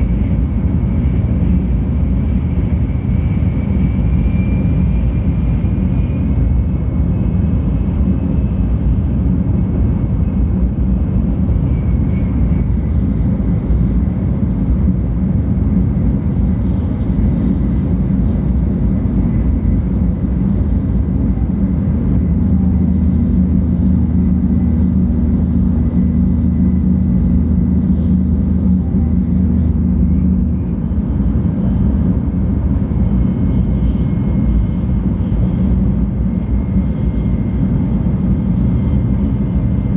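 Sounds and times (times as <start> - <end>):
low hum: 0.0 - 39.9.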